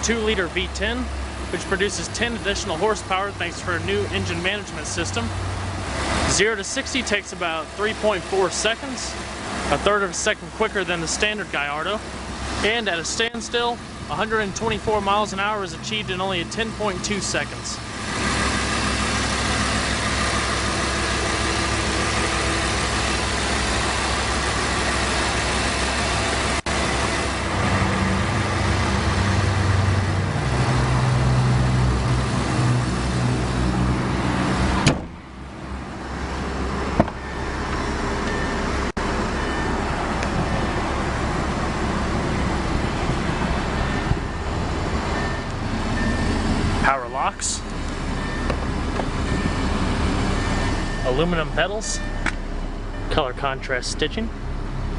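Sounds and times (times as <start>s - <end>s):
road traffic noise: 0.0s - 54.9s
vehicle engine low hum: 0.0s - 54.9s.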